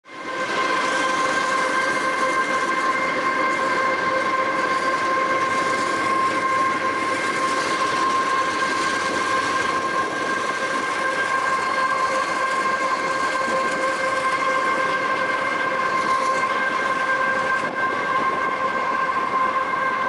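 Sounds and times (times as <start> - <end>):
train wheels rushing: 0.0 - 20.0
high eerie whine: 0.1 - 20.0.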